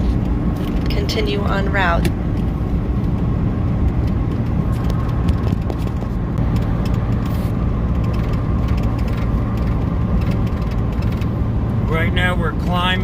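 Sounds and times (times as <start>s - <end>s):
diesel truck engine pulling uphill: 0.0s - 13.0s
road noise: 0.0s - 13.0s.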